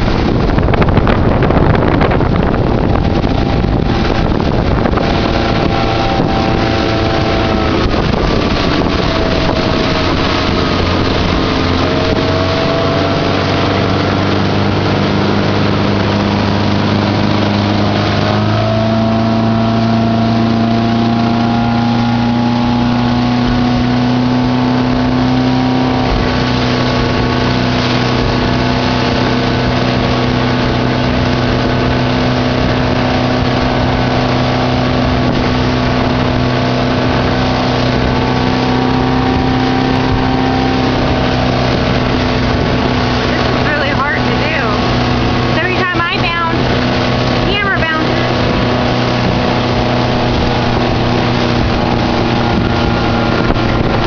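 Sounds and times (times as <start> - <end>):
motorboat engine running: 0.0 - 54.0
rush of boat wake: 0.0 - 54.0
wind buffeting microphone: 0.0 - 54.0.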